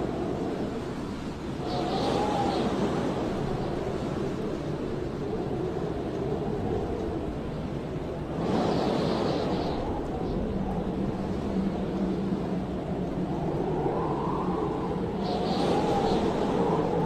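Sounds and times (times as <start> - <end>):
blizzard wind rushing: 0.0 - 17.0.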